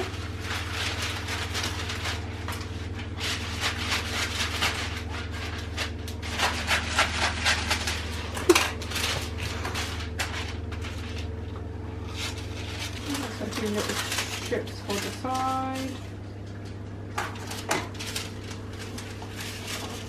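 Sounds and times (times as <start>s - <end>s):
baking paper crinkling: 0.0s - 20.0s
steady low hum: 0.0s - 20.0s.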